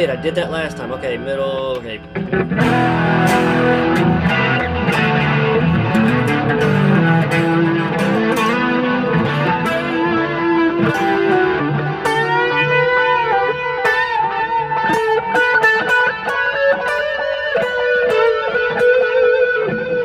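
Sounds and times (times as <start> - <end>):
clean electric guitar riff: 0.0 - 20.0.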